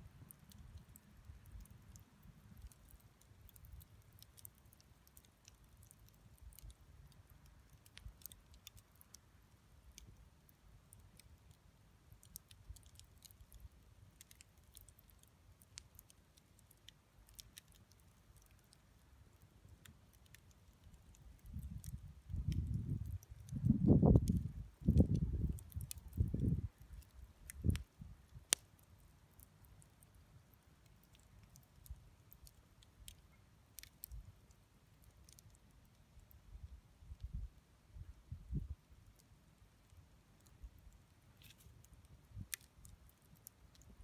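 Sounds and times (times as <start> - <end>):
burning wood crackling: 0.0 - 44.0
low fire rumble: 0.0 - 44.0.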